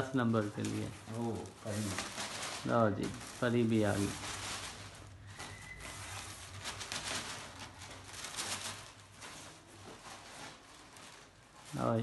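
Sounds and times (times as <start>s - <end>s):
paper and cardboard rustling: 0.0s - 12.0s.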